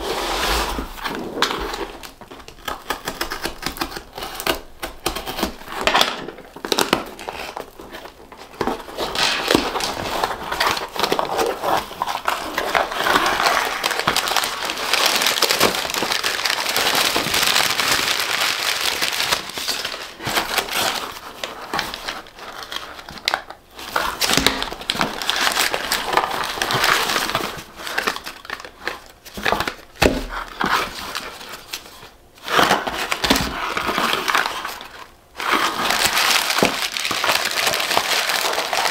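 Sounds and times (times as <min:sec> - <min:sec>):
packing paper rustling: 0:00.0 - 0:38.9.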